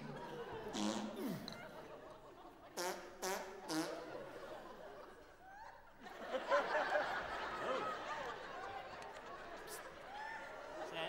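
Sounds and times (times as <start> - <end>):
audience laughter: 0.0 - 11.0.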